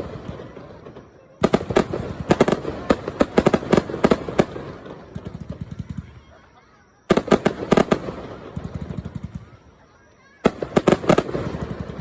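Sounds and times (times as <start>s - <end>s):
fireworks popping and cracking: 0.0s - 6.3s, 7.0s - 9.7s, 10.4s - 12.0s.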